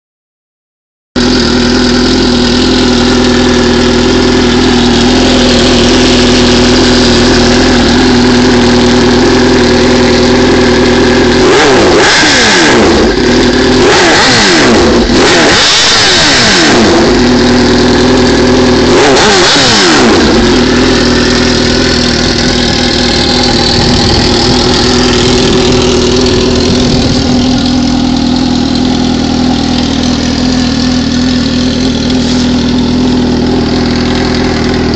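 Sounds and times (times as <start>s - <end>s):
motorcycle engine idling and revving: 1.2s - 34.9s.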